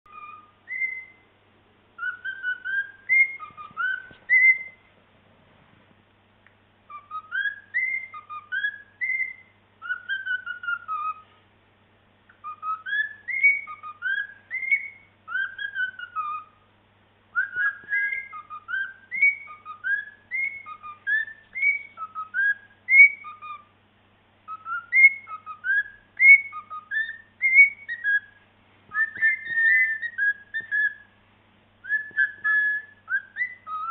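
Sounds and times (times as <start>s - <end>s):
cockatiel whistling: 0.0s - 1.2s, 2.0s - 4.9s, 6.9s - 11.4s, 12.3s - 16.7s, 17.3s - 23.7s, 24.5s - 31.2s, 31.8s - 33.9s.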